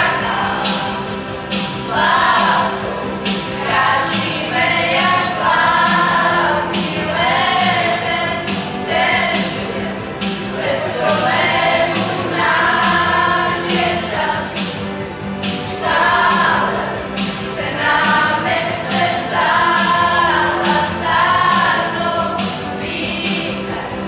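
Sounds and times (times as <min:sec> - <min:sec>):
group of voices singing in chorus: 0:00.0 - 0:24.0.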